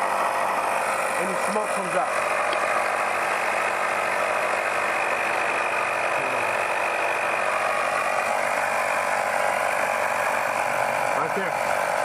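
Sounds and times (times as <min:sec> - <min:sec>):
smoke machine hissing hum: 0:00.0 - 0:12.0.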